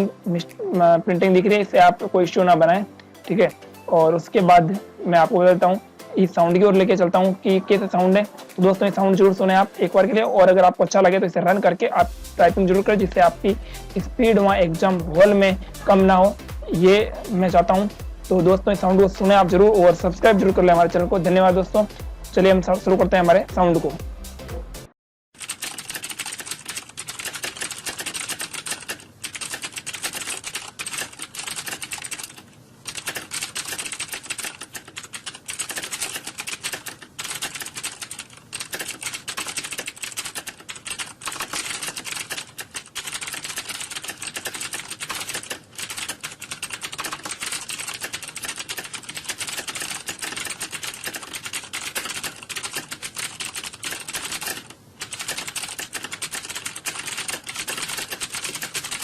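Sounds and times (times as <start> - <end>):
computer keyboards typing rapidly: 4.3 - 24.0, 25.4 - 59.0.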